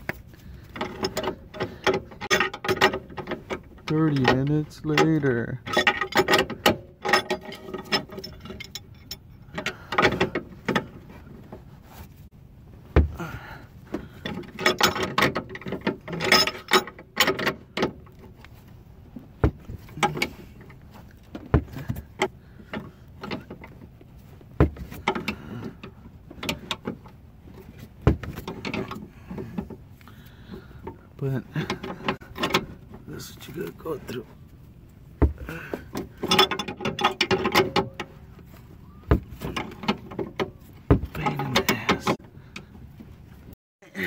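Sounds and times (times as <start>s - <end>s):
metal hand tools clanking: 0.0s - 11.3s, 13.3s - 18.6s, 19.3s - 24.0s, 24.6s - 34.3s, 35.2s - 42.7s.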